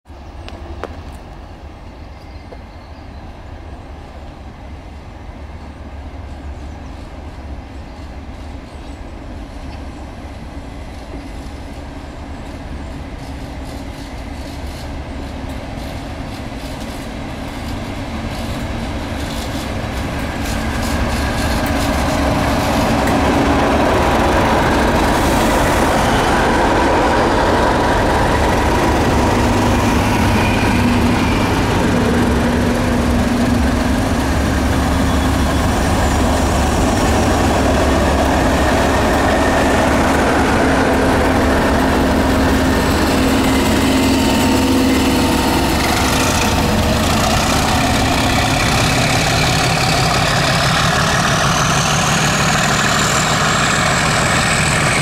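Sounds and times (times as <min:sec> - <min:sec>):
diesel locomotive engine drone: 0:00.1 - 0:55.0
train wheels clicking on rails: 0:06.3 - 0:55.0.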